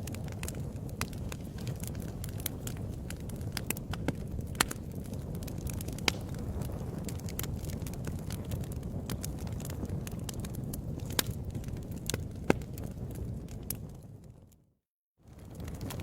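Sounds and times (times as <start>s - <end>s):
loud pops of burning wood: 0.0s - 14.0s, 15.2s - 16.0s
wood fire crackling: 0.0s - 14.5s, 15.2s - 16.0s
low rumble of flames: 0.0s - 16.0s.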